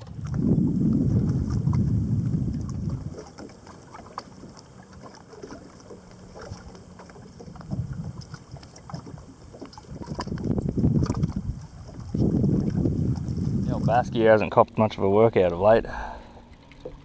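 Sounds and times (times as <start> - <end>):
wind buffeting microphone: 0.0 - 4.6, 5.8 - 14.8
boat knocks and ticks: 0.0 - 14.0
faint low hum: 0.0 - 17.0.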